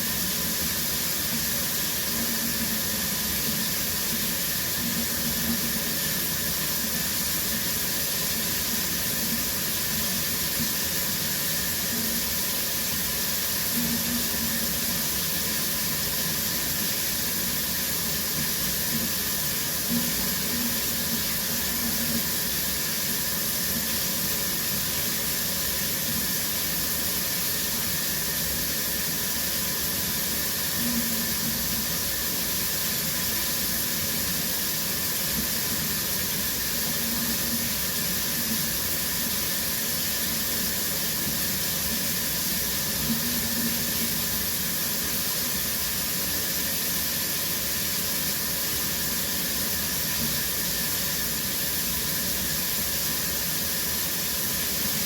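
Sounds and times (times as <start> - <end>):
shower running: 0.0 - 55.0.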